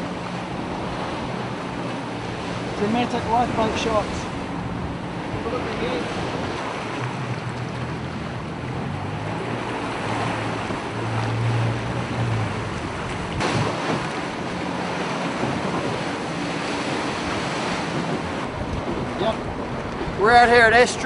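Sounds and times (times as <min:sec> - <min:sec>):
boat engine humming: 0:00.0 - 0:21.0
sea rushing: 0:00.0 - 0:21.0
wind buffeting microphone: 0:00.0 - 0:21.0.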